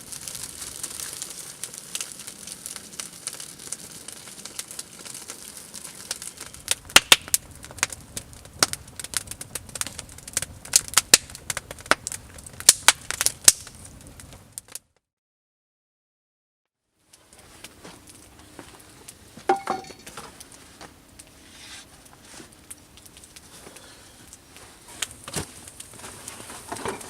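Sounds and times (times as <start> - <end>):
wood fire crackling with pops: 0.0 - 14.9, 17.1 - 27.0.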